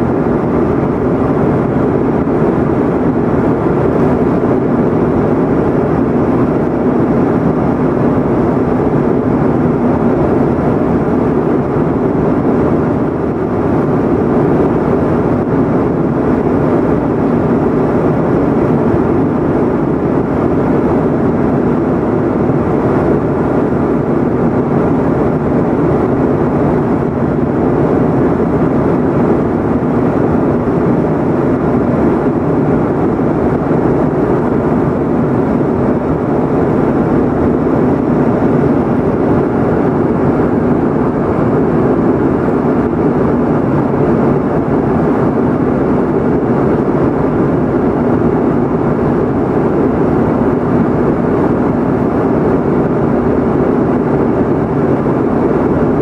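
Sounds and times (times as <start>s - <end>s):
airliner cabin engine and airflow rush: 0.0s - 56.0s.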